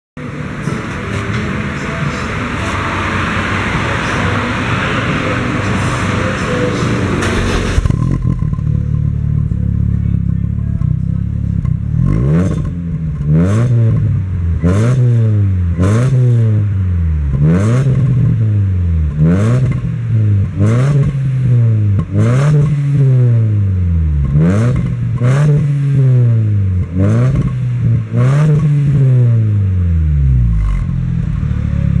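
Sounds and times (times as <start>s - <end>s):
car engine revving: 0.1s - 32.0s.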